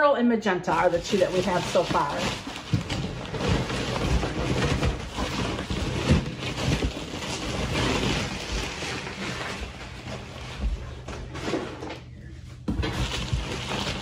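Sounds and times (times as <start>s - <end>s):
foil liner rustling: 0.7s - 14.0s
cardboard being handled: 0.8s - 14.0s.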